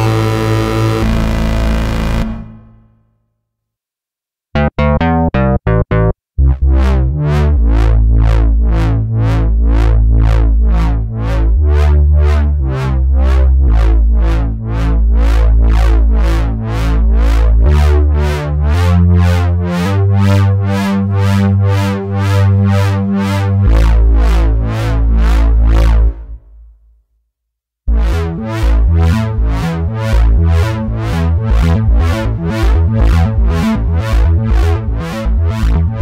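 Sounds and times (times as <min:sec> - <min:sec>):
synth bass repeating short notes: 0:00.0 - 0:02.8, 0:04.6 - 0:26.3, 0:27.9 - 0:36.0.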